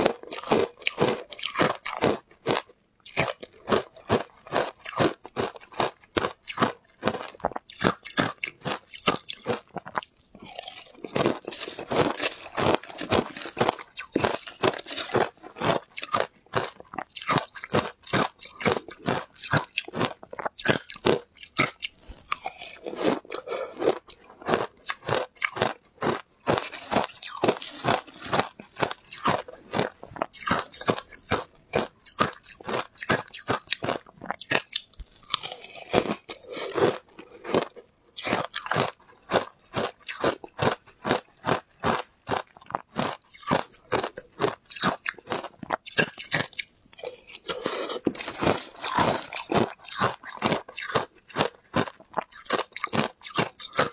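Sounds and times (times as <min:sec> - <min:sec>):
crunching shaved ice in mouth: 0:00.0 - 0:53.9.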